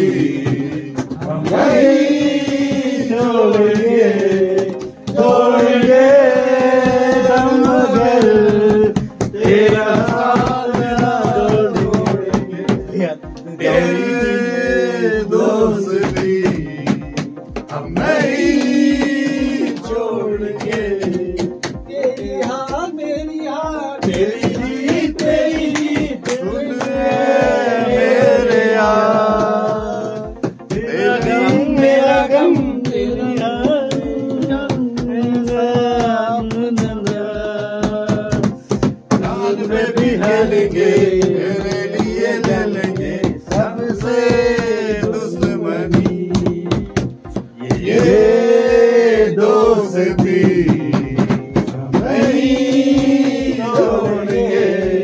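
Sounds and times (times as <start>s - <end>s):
men singing together: 0.0s - 55.0s
percussive beat: 0.0s - 55.0s.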